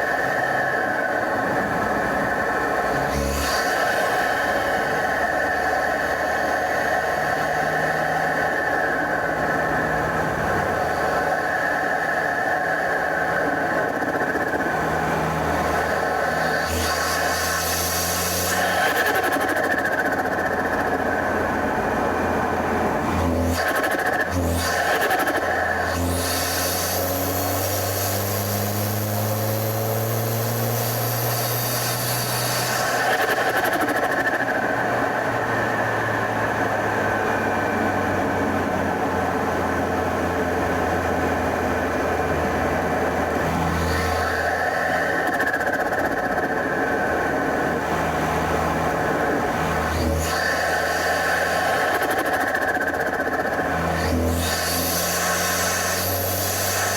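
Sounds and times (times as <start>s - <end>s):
car engine running steadily: 0.0s - 56.9s
road noise: 0.0s - 56.9s.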